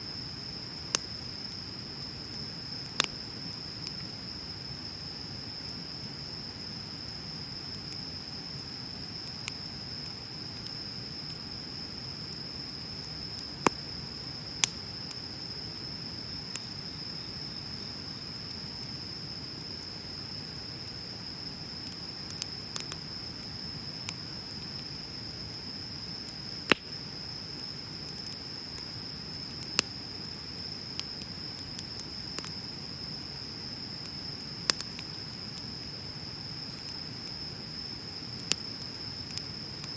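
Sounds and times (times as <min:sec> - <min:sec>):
high-pitched insect trill: 0:00.0 - 0:39.9
bonfire crackling and popping: 0:00.1 - 0:39.9.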